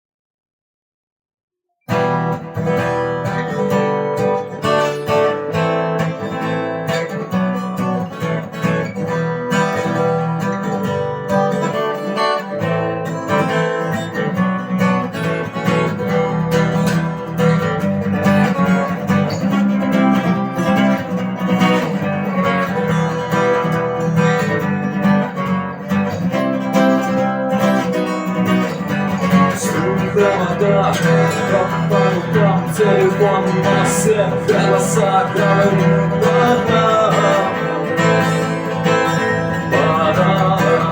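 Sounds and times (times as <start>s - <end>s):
guitar strummed: 1.9s - 40.9s.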